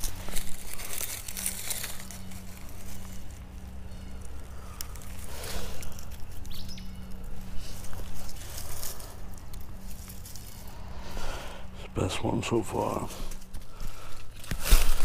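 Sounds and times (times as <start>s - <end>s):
dry leaves rustling and crackling: 0.0s - 15.0s
steady low hum: 0.0s - 15.0s.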